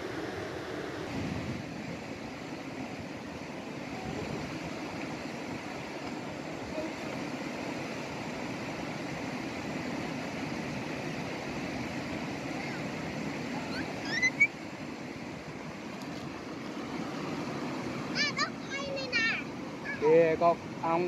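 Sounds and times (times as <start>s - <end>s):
stream gurgling: 0.0s - 21.0s.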